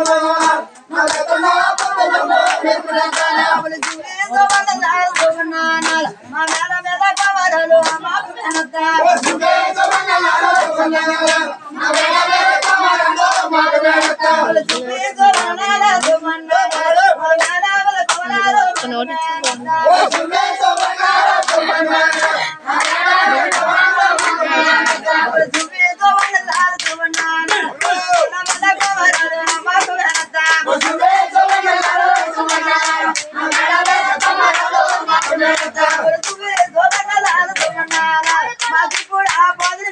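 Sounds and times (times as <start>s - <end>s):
rhythmic hand clapping: 0.0s - 39.9s
voices singing folk song: 0.0s - 39.9s.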